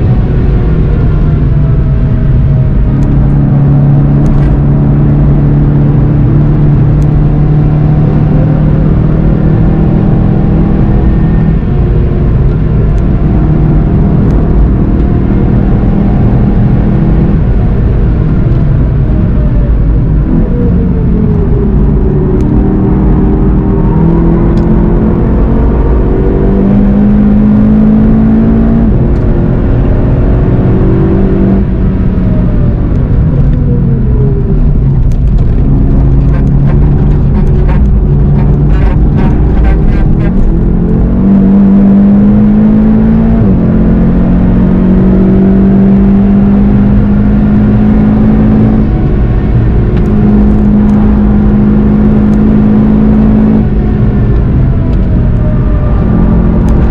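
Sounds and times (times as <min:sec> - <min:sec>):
car engine accelerating: 0:00.0 - 0:56.9
road noise inside car: 0:00.0 - 0:56.9.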